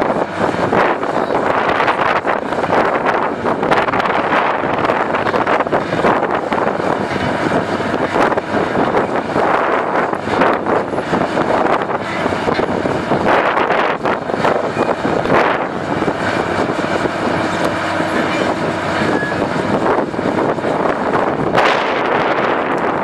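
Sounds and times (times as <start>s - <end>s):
crawler tracks moving: 0.0s - 23.0s
excavator diesel engine running: 0.0s - 23.0s
wind buffeting microphone: 0.0s - 23.0s.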